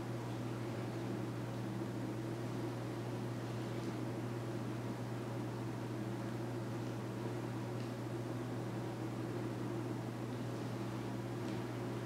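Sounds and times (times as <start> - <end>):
fan humming with hiss: 0.0 - 12.0.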